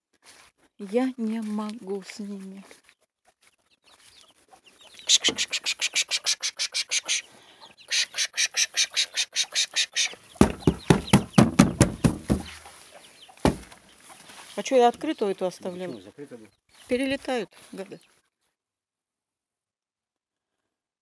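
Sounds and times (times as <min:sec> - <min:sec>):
hens rustling through grass: 0:00.2 - 0:18.2.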